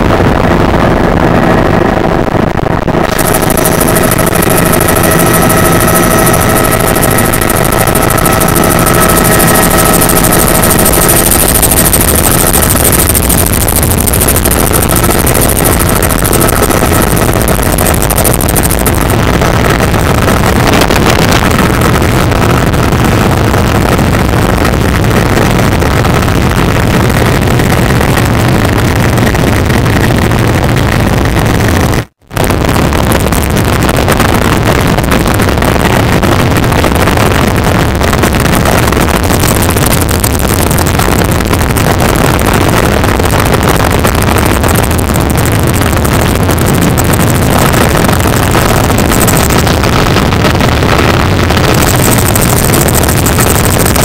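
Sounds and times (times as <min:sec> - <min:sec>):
helicopter engine and rotor: 0:00.0 - 0:54.0
high whine: 0:00.0 - 0:54.0.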